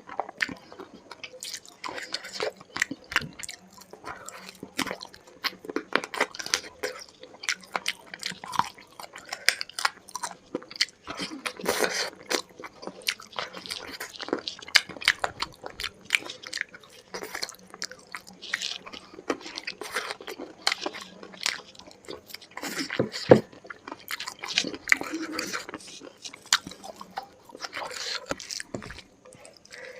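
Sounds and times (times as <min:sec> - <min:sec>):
close chewing and crunchy bites: 0:00.0 - 0:29.9.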